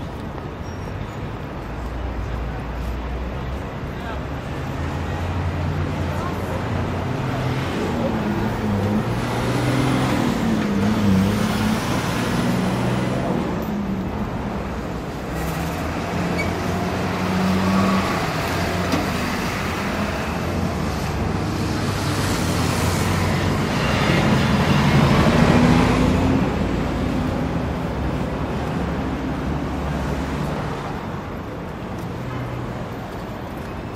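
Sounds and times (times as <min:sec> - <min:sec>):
city traffic din: 0:00.0 - 0:33.9.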